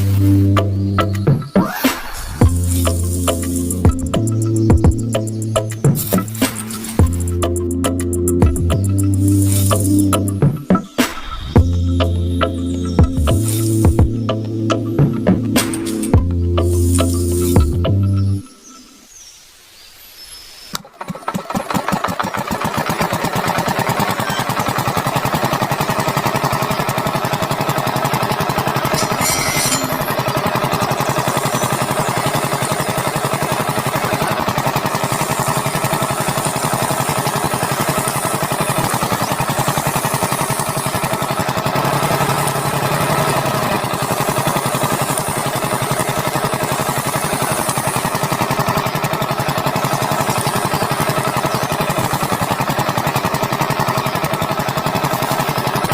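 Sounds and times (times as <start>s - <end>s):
small engine running: 0.0s - 18.5s, 20.7s - 55.9s.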